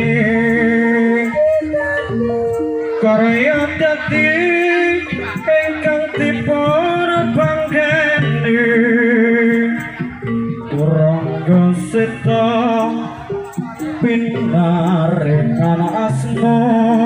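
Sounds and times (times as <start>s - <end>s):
hand drums: 0.0s - 17.0s
metallophones: 0.0s - 17.0s
ornamented lead melody: 0.0s - 17.0s.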